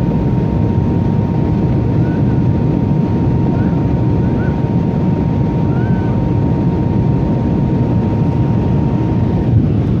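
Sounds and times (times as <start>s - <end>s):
airliner engine and airflow rumble: 0.0s - 10.0s
thin steady whine: 0.0s - 10.0s.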